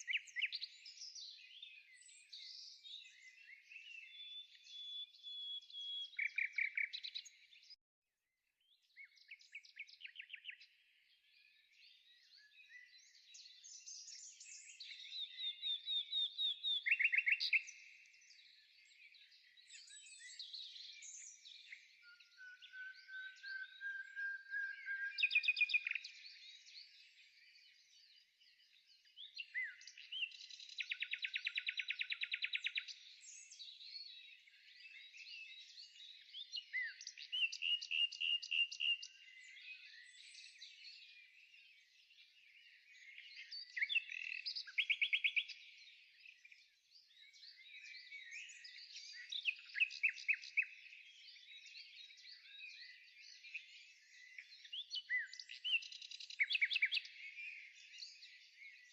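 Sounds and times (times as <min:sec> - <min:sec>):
songbirds chirping and trilling: 0:00.0 - 0:07.8, 0:08.6 - 0:58.9.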